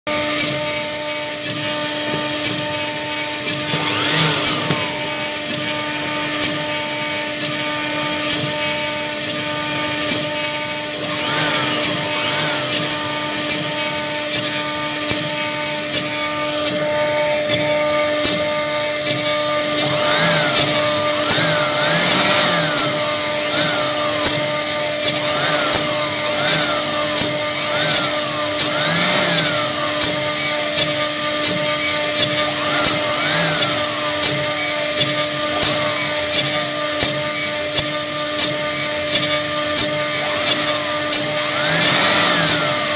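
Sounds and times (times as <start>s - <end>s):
router spindle whine: 0.1s - 42.9s
small clicks: 0.1s - 42.9s
stepper motors whining: 0.1s - 42.9s.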